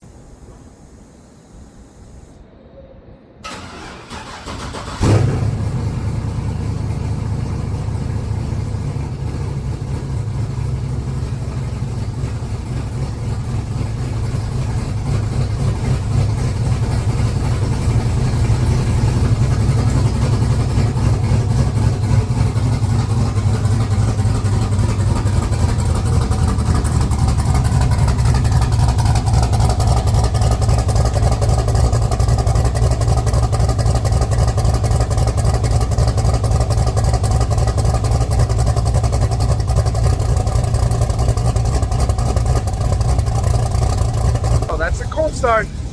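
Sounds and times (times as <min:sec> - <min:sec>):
truck engine cranking: 0:03.4 - 0:10.9, 0:11.5 - 0:45.9
truck engine idling: 0:03.5 - 0:45.9.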